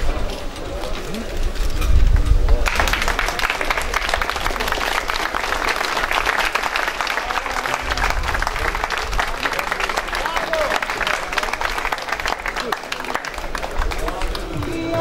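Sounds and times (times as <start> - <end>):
audience applauding: 2.6 - 15.0.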